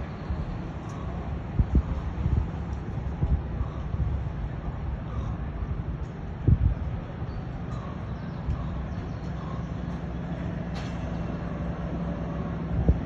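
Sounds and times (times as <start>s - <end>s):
ship engine low rumble: 0.0s - 13.0s
wind buffeting microphone: 0.0s - 13.0s.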